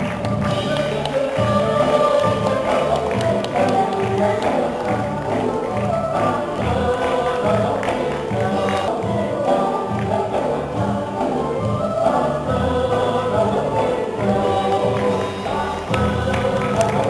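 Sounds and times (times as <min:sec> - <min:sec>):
instrumental accompaniment: 0:00.0 - 0:17.0
voices singing together: 0:00.0 - 0:17.0.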